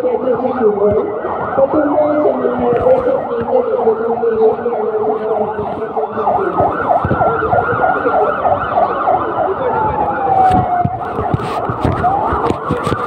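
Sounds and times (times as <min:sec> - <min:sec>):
siren yelping: 0:00.0 - 0:13.0
steady siren tone: 0:00.0 - 0:13.0.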